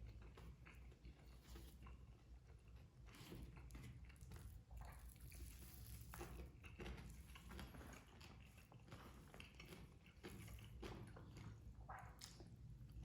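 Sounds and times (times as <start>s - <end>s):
faint room hum: 0.0s - 13.0s
person chewing food: 0.0s - 13.0s.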